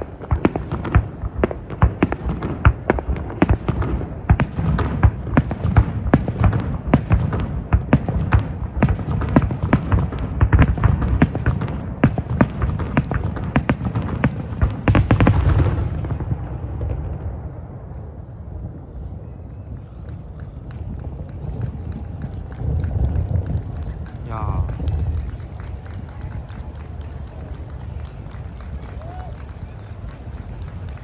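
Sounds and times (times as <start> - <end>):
fireworks bursting: 0.0 - 31.0
low rumble and echo: 0.0 - 31.0.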